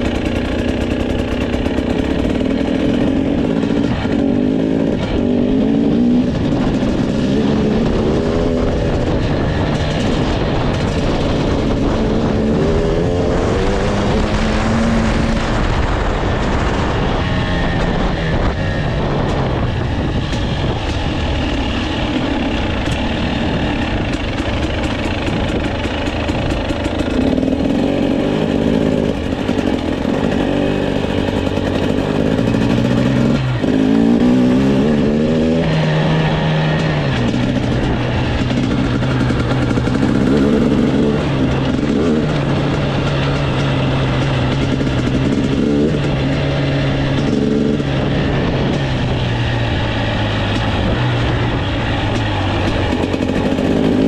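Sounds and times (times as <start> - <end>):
two-stroke motorcycle engine running: 0.0 - 54.0.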